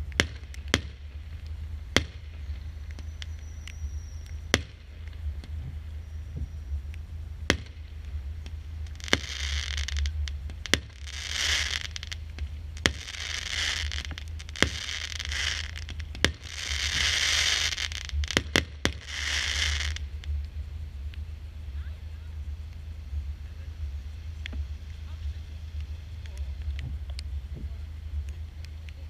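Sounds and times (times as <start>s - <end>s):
firework crackling: 0.0s - 29.0s
firework launch reports: 0.0s - 29.0s.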